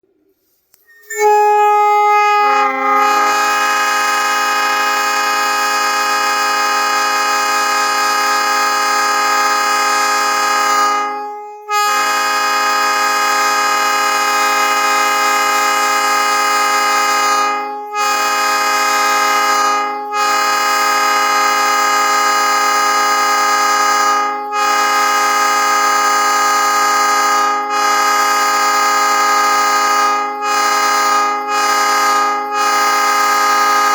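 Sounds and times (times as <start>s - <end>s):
three-chime air horn blasts: 0.7s - 33.9s.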